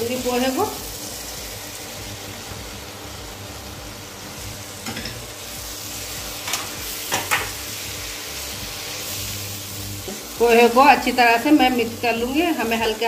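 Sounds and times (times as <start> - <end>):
rice frying with steady sizzle: 0.0 - 13.0.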